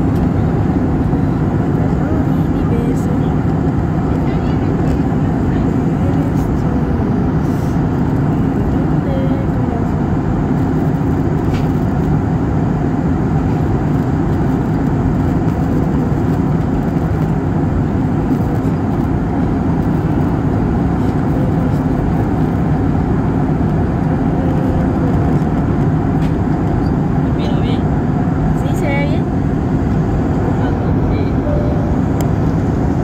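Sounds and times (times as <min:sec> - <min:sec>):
airliner cabin engine noise: 0:00.0 - 0:33.0.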